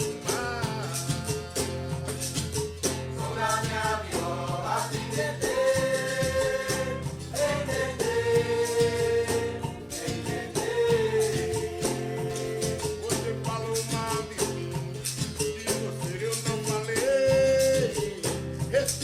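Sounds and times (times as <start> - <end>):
steady bass line: 0.0 - 15.3
rattling hand percussion: 0.0 - 19.0.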